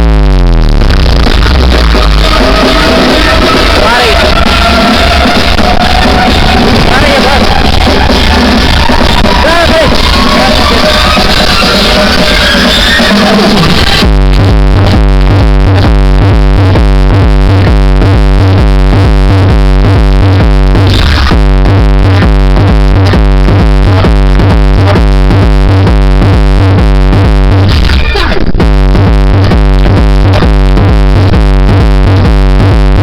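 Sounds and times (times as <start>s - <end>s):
loud electronic music in car: 0.0s - 33.0s.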